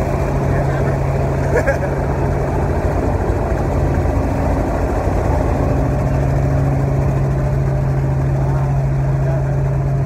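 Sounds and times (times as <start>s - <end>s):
helicopter engine and rotors droning: 0.0s - 10.0s.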